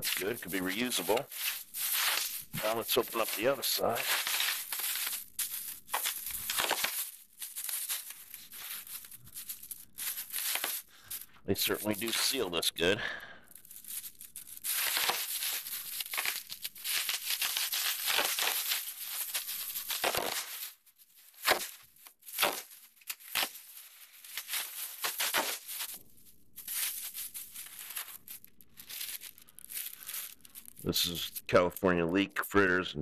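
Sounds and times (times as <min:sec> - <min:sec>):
foil and plastic crinkling: 0:00.0 - 0:32.0
sharp crackles: 0:00.0 - 0:32.7.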